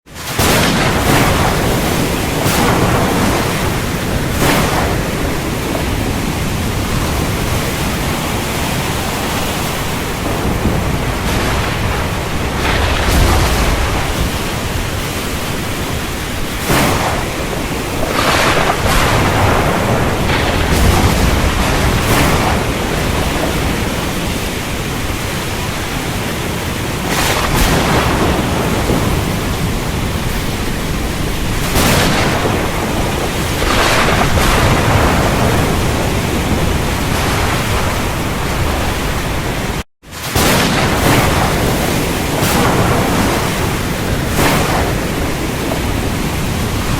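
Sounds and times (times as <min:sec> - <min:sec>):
heavy rain: 0:00.0 - 0:46.9
strong wind: 0:00.0 - 0:46.9
thunder cracking and rumbling: 0:00.1 - 0:46.9.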